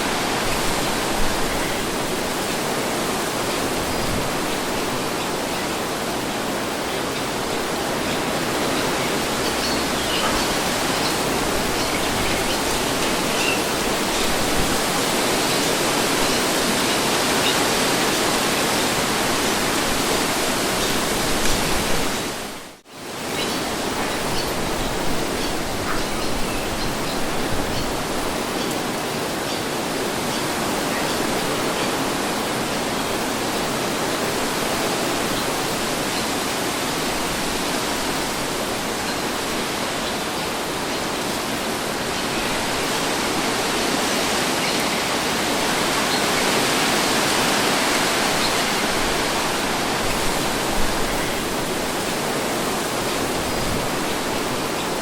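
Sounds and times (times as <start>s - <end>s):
steady wind: 0.0s - 55.0s.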